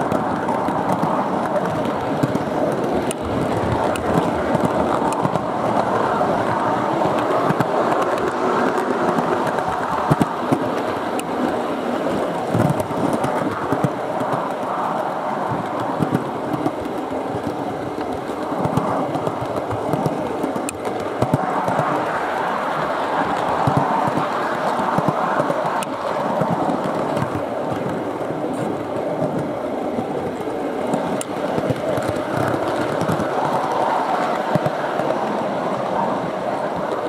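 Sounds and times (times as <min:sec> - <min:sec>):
model train rolling rumble: 0:00.0 - 0:37.0
wheels clicking on rails: 0:00.0 - 0:37.0.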